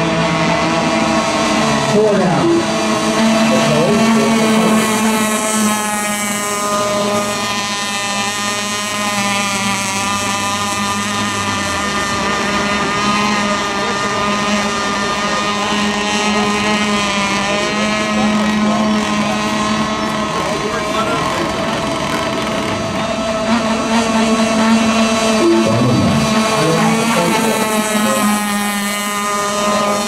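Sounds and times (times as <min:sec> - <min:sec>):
low drone: 0:00.0 - 0:30.0
model boat motors whining: 0:00.0 - 0:30.0.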